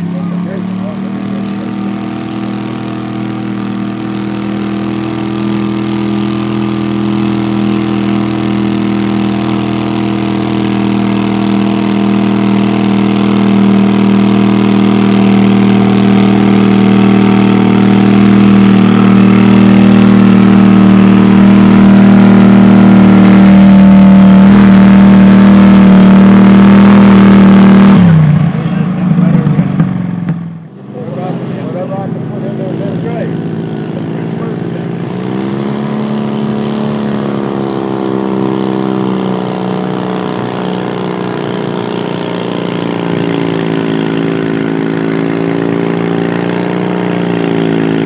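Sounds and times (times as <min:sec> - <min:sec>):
tractor engine running at high revs: 0:00.0 - 0:48.0.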